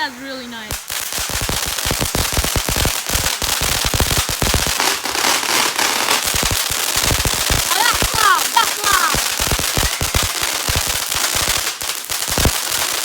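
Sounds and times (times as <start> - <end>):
firework crackling: 0.0 - 13.0
firework pops and bangs: 0.6 - 13.0.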